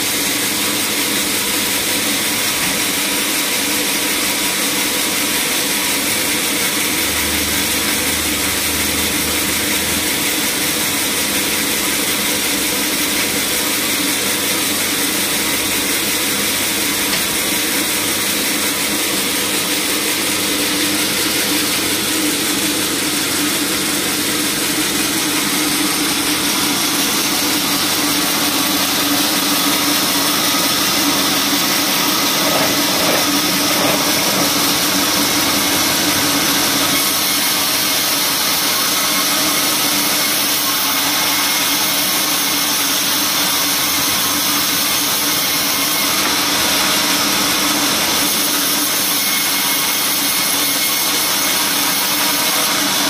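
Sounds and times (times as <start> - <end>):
band saw cutting log: 0.0 - 53.0.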